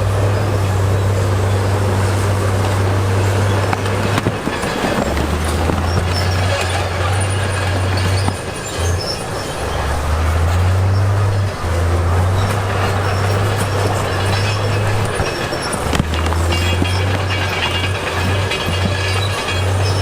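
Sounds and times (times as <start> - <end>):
diesel engine drone: 0.0 - 20.0
metallic grinding and squealing: 1.1 - 20.0.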